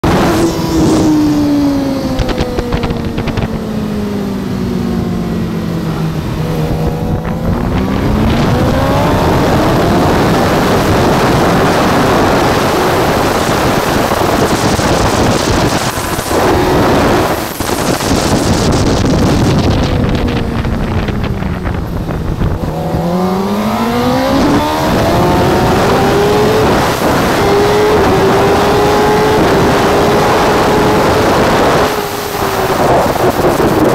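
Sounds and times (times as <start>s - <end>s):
heavy wind roar: 0.0s - 33.9s
racing motorcycle engine: 0.0s - 33.9s.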